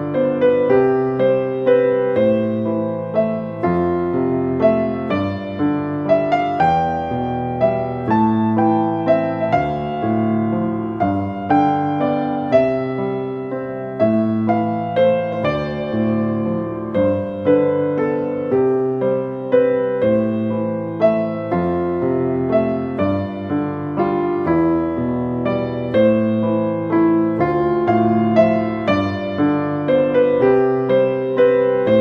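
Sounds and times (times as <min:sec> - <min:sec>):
gentle piano piece: 0:00.0 - 0:32.0.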